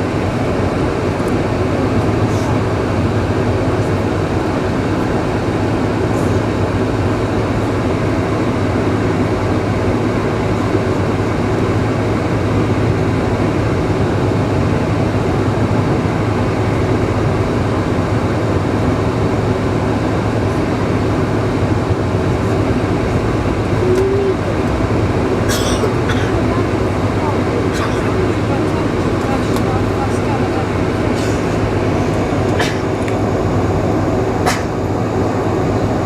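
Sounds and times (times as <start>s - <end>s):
jet engines running at low thrust: 0.0s - 36.0s.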